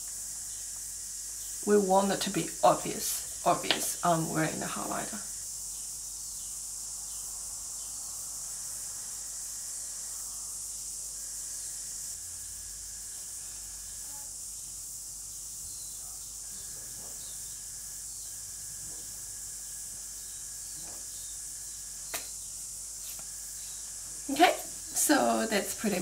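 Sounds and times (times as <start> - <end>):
steady high-pitched hiss: 0.0 - 26.0.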